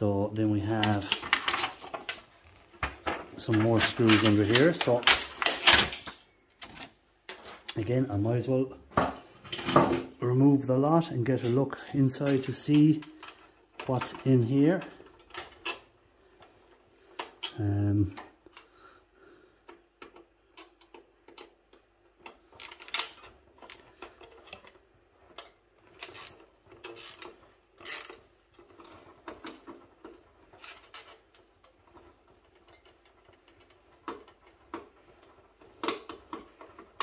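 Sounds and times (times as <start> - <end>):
printer parts clicking and rattling: 0.7 - 7.8, 11.3 - 16.5, 19.6 - 37.0.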